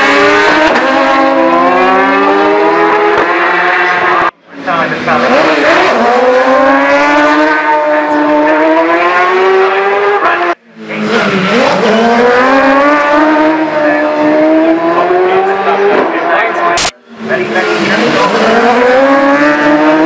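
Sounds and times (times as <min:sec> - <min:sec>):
motorbike engine at high revs: 0:00.0 - 0:20.0.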